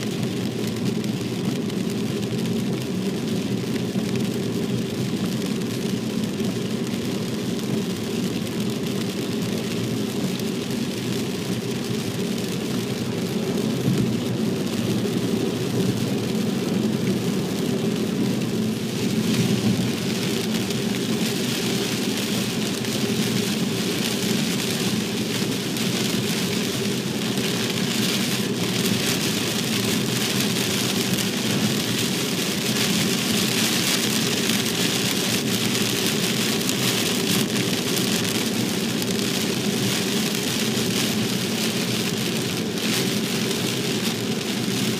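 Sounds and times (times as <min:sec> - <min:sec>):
rain and spray hissing on car: 0:00.0 - 0:44.9.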